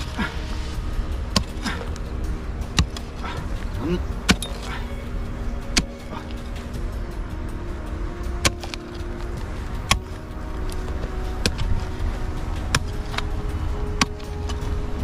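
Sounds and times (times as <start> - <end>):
mattock striking stony soil: 0.0 - 7.4, 8.1 - 15.0
steady low rumble: 0.0 - 15.0.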